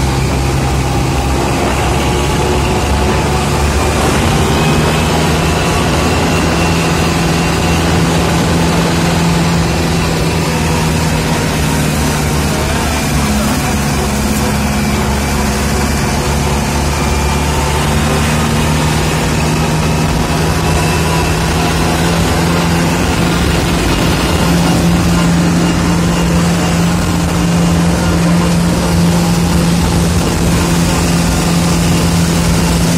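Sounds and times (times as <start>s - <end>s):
tractor diesel engine at high revs: 0.0s - 32.9s.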